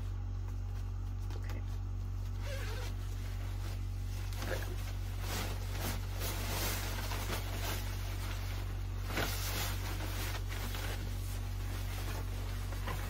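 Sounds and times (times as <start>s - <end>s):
coverall rustling: 0.0s - 13.0s
steady low hum: 0.0s - 13.0s.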